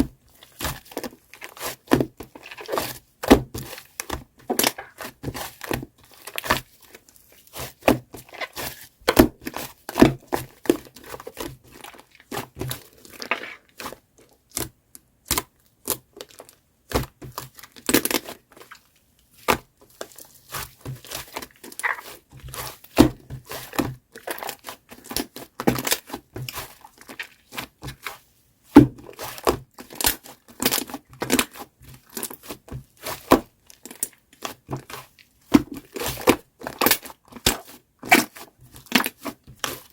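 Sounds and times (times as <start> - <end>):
slime squelching and crackling: 0.3 - 39.9.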